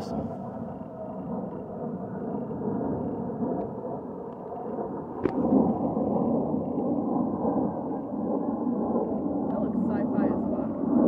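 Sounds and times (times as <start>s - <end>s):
aircraft rumble overhead: 0.0s - 11.0s.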